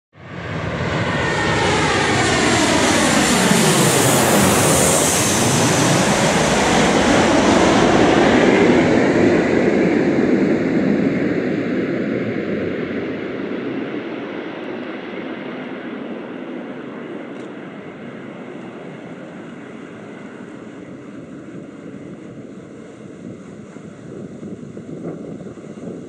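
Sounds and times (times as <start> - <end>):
jet engines whining: 0.2 - 26.0
jet passing overhead rumble: 0.2 - 26.0.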